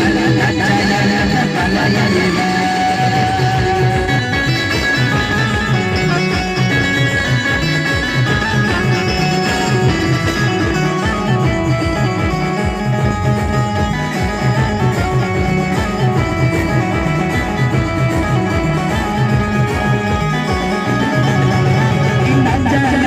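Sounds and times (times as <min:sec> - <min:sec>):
repeating melody line: 0:00.0 - 0:23.0.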